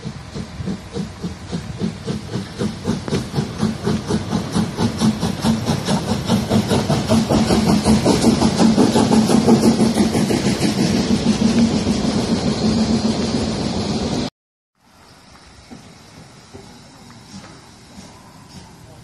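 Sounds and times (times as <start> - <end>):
steam train passing: 0.0 - 19.0.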